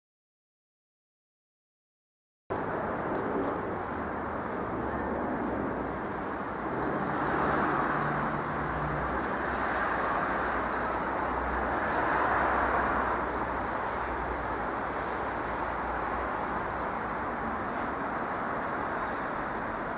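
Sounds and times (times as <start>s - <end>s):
distant road traffic: 2.5s - 19.9s.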